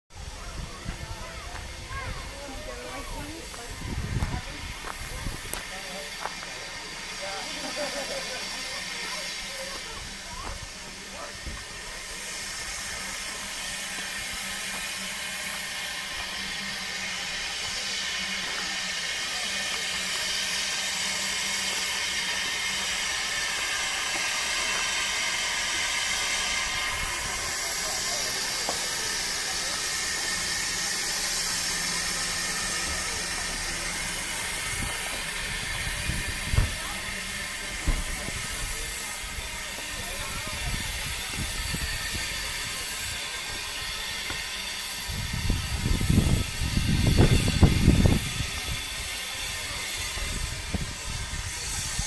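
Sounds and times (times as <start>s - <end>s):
steam hissing: 0.1s - 52.0s.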